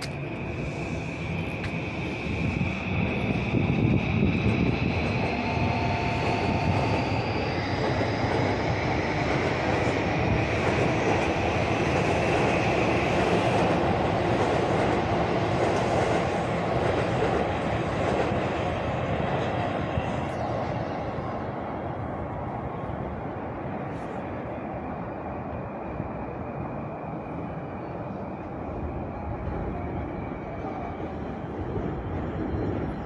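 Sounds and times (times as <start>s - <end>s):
high whine of electric train: 0.0s - 33.0s
wheels rumbling on rail: 0.0s - 33.0s.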